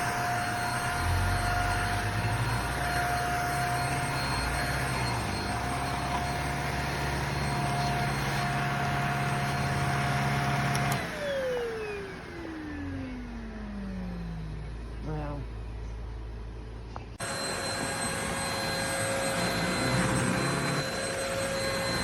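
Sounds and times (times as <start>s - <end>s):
vacuum motor whine: 0.0s - 15.0s, 17.2s - 22.0s.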